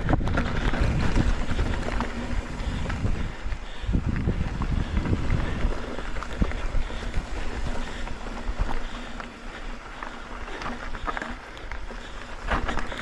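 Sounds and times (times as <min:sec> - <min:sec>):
bike clicks and rattles: 0:00.0 - 0:13.0
bike tyres crunching over gravel: 0:00.0 - 0:13.0
wind rumbling on microphone: 0:00.0 - 0:13.0.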